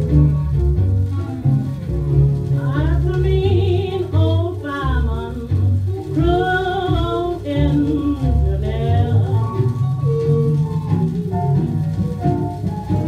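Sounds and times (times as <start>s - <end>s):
old jazz blues recording: 0.0s - 13.0s.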